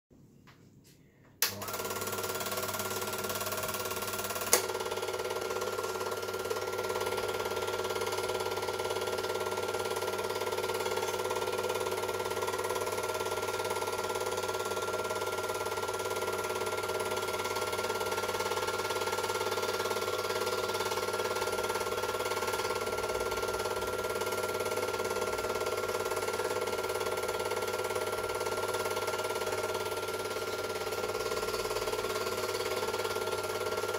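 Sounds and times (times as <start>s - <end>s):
film projector motor whirring: 1.4s - 33.9s.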